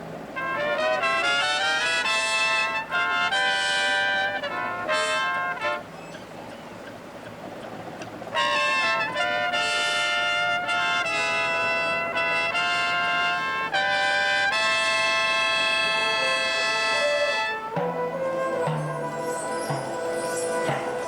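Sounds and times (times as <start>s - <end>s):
brass horn line playing chords: 0.2s - 6.0s, 8.3s - 21.0s.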